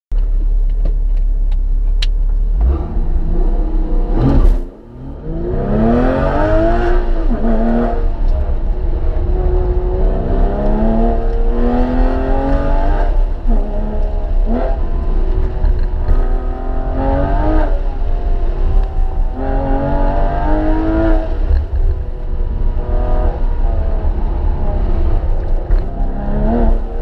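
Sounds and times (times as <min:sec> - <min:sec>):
car engine revving: 0:02.0 - 0:27.0.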